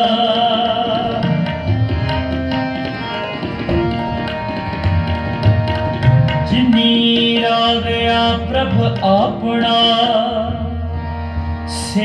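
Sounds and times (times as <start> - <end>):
sustained harmonium notes: 0.0 - 12.0
tabla playing: 0.0 - 12.0.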